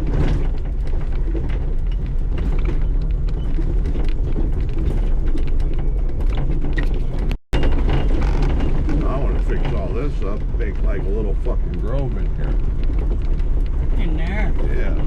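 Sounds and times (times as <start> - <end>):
vehicle body clattering and creaking: 0.0 - 15.0
vehicle engine rumbling: 0.0 - 15.0.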